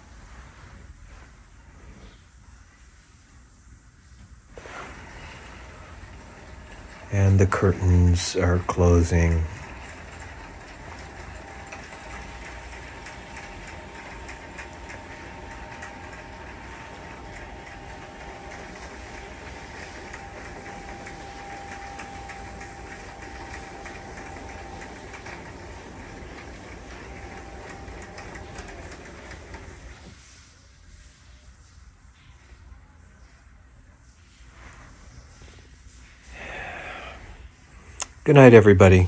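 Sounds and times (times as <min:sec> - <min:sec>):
curtain motor hum with whine: 0:00.0 - 0:39.0.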